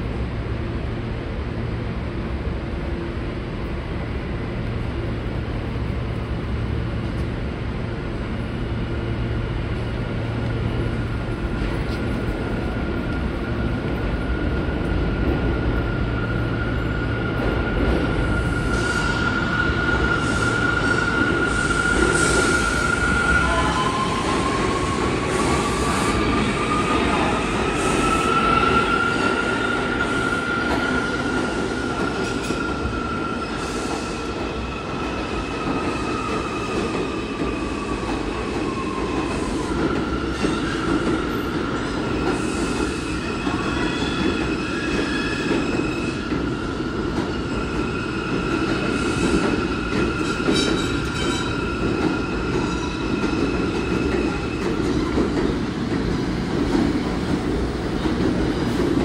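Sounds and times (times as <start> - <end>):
high train whine: 0.0 - 59.0
subway train rumble: 0.0 - 59.0.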